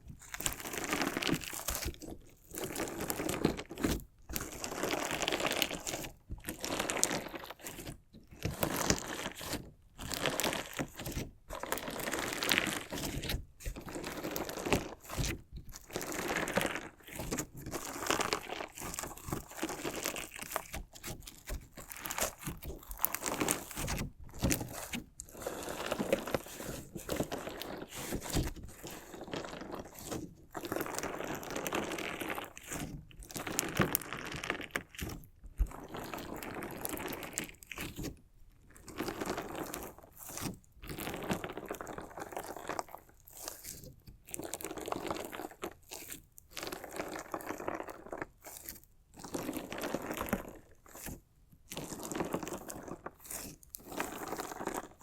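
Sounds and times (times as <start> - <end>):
slime crackling and crunching: 0.0 - 55.0.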